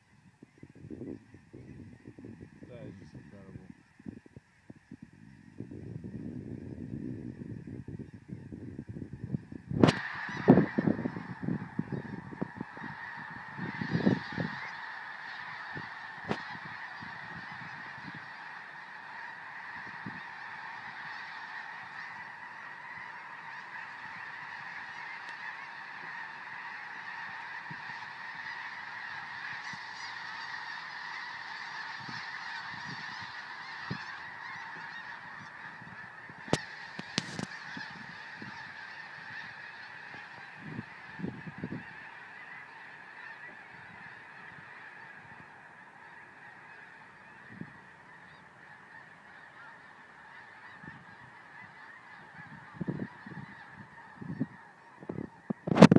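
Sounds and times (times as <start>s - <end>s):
geese honking: 0.0s - 55.9s.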